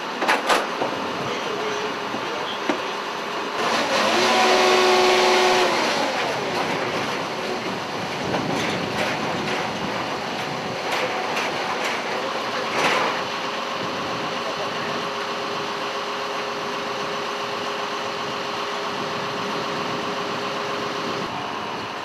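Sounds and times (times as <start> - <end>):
heavy engine noise: 0.0 - 22.0.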